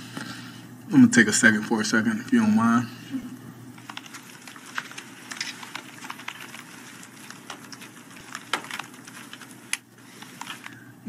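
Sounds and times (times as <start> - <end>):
low room noise: 0.0 - 11.0.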